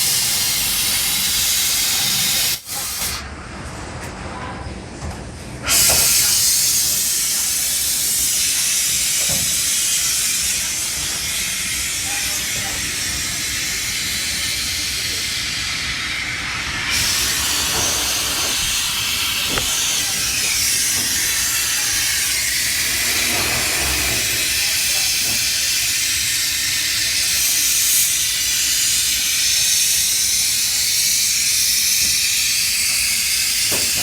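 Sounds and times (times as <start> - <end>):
compressor hiss: 0.0 - 3.3, 5.6 - 34.0.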